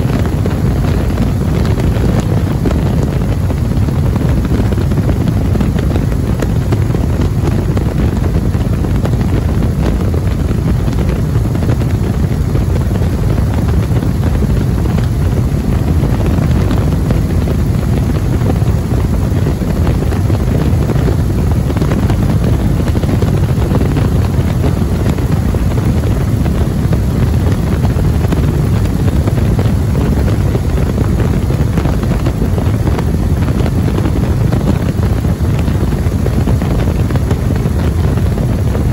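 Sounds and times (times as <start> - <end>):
radial aircraft engine running: 0.0 - 38.9
wind rush on microphone: 0.0 - 38.9.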